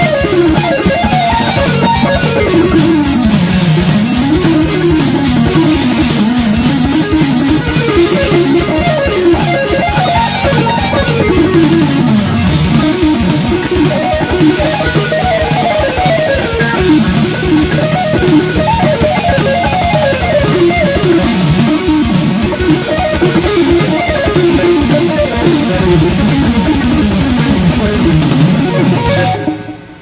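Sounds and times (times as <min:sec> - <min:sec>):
backing track drum beat: 0:00.0 - 0:30.0
electric guitar fast picked runs: 0:00.0 - 0:30.0.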